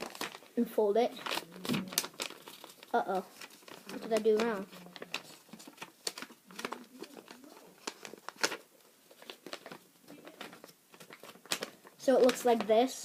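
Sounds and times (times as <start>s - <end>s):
paper crinkling: 0.0s - 13.0s.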